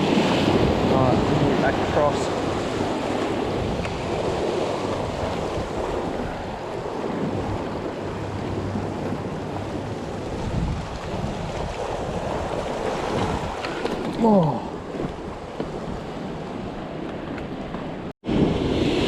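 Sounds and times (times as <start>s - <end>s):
waves against rocks: 0.0s - 19.0s
wind buffeting microphone: 0.0s - 19.0s.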